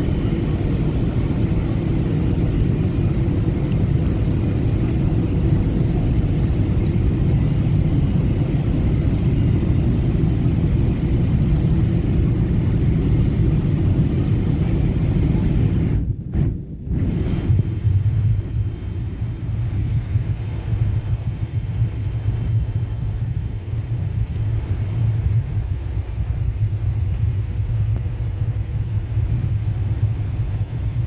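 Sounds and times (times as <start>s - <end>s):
faint hum: 0.0s - 31.0s
jet airliner low rumble: 0.0s - 31.0s.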